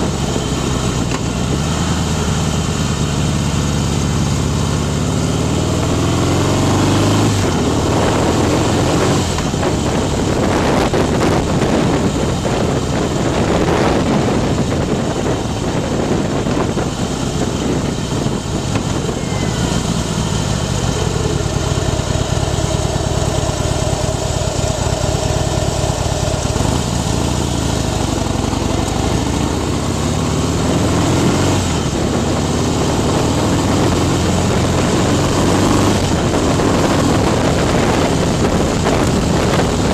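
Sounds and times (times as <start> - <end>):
motorcycle engine running: 0.0 - 39.9
wind buffeting microphone: 5.5 - 39.9.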